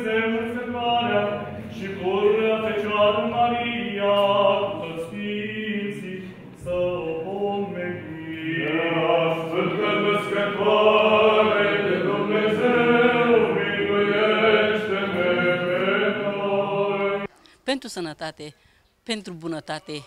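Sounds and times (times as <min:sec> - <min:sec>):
voices chanting: 0:00.0 - 0:17.3.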